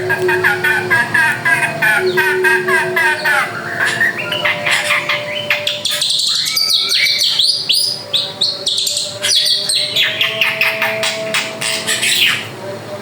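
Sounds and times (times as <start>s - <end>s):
bird singing chirps and whistles: 0.0s - 12.6s.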